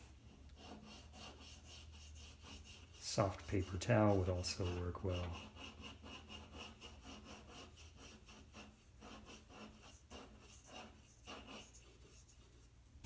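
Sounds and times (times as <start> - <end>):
paper stump rubbing on paper: 0.0 - 12.9.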